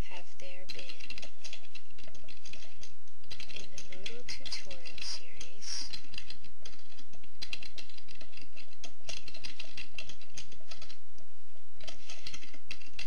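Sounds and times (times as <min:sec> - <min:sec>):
steady low hum: 0:00.0 - 0:13.0
typing on computer keyboard: 0:00.7 - 0:11.0, 0:11.8 - 0:13.0.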